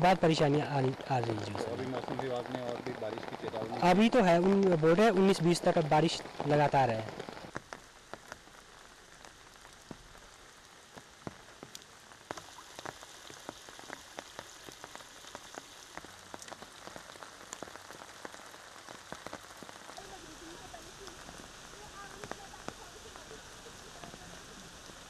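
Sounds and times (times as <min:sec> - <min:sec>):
heavy rain falling: 0:00.0 - 0:25.0
sharp ticks of raindrops: 0:00.0 - 0:25.0.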